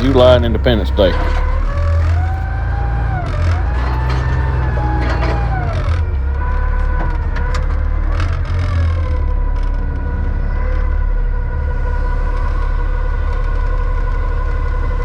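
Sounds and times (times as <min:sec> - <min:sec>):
loader engine revving with whine: 0:00.0 - 0:15.0.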